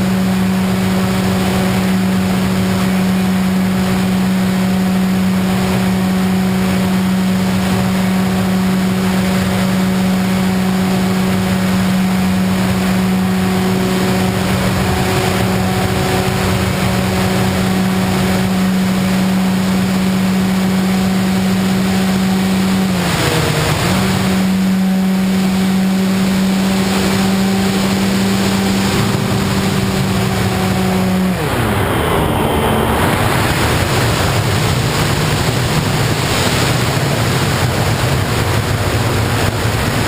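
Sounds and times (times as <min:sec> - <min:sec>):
model plane motor and propeller: 0:00.0 - 0:40.0
rushing wind noise: 0:00.0 - 0:40.0.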